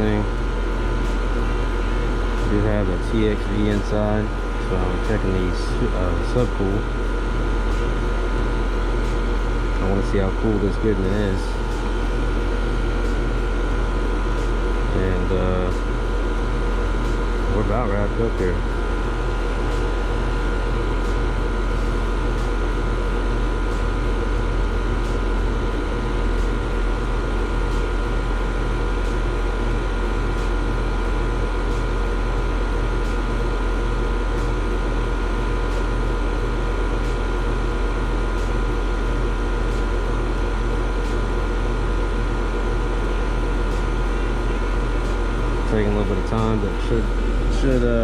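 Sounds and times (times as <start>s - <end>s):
air conditioner unit humming: 0.0s - 48.0s.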